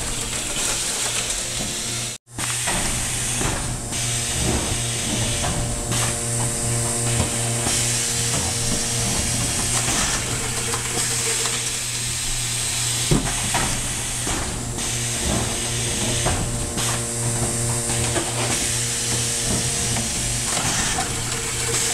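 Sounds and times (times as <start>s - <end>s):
machine clatter: 0.0s - 21.9s
machine electrical hum: 0.0s - 21.9s.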